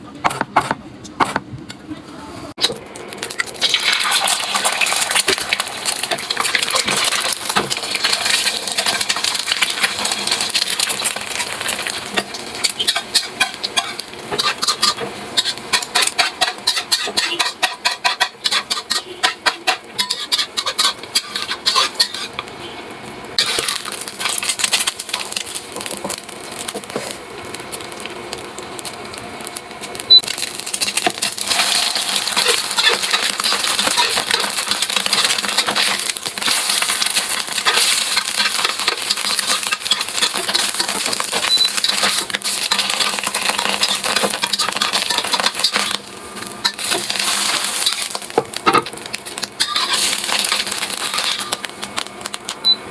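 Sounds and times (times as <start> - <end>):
utensils clicking on pan: 2.6 - 22.5, 23.4 - 52.6
frying sizzle: 2.6 - 52.9.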